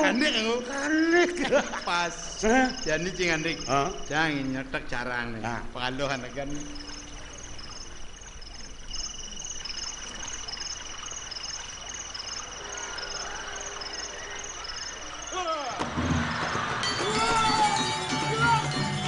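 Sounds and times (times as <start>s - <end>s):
short high cricket chirps: 0.0s - 15.8s
crickets trilling: 0.0s - 17.8s.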